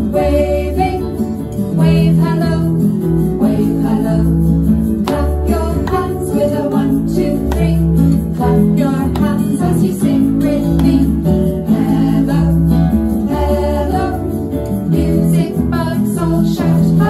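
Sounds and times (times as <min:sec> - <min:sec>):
acoustic guitar: 0:00.0 - 0:17.0
person singing: 0:00.0 - 0:17.0.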